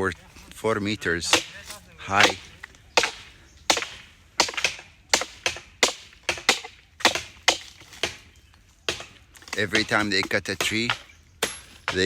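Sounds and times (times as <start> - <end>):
blade chopping palm trunk: 1.2 - 12.0.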